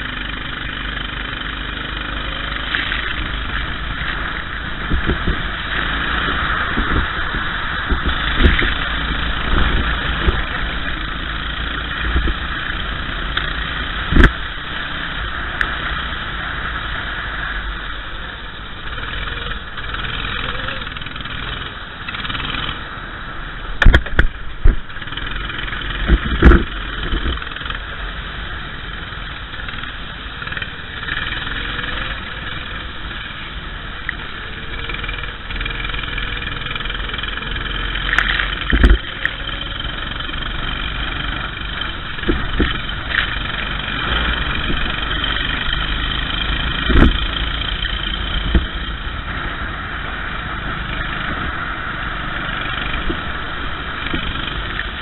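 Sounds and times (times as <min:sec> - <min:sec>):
racing kart engine running: 0:00.0 - 0:55.0.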